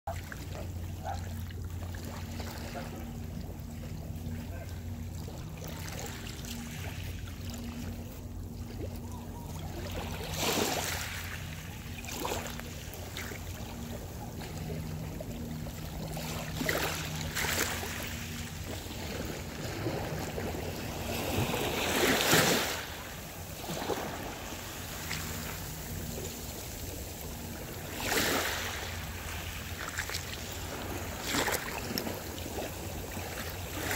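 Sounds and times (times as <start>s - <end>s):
small waves splashing on shore: 0.1s - 33.9s
steady low rumble: 0.1s - 33.9s.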